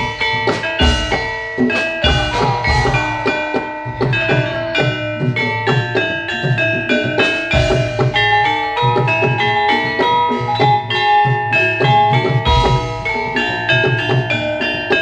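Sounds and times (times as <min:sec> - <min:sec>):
hand drum strokes: 0:00.0 - 0:15.0
metallophones striking: 0:00.0 - 0:15.0.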